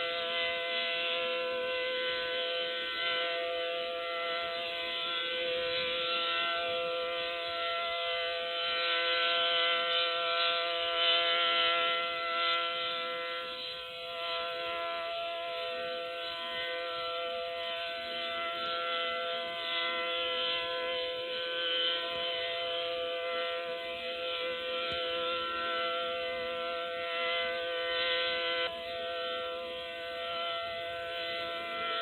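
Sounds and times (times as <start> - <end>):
warning siren chord: 0.0 - 32.0.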